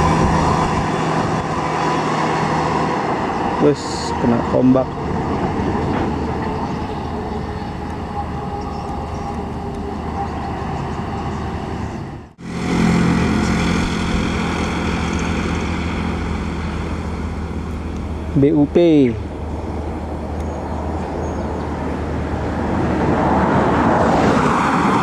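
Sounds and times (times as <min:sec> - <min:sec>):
large vehicle engine hum: 0:00.0 - 0:25.0
road traffic drone: 0:00.0 - 0:25.0.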